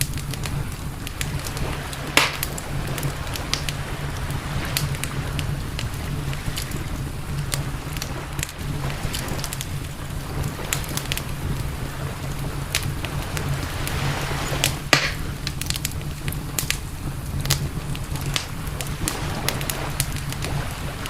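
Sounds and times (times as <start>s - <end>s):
campfire wood crackling: 0.0s - 21.0s
low steady rumble: 0.0s - 21.0s.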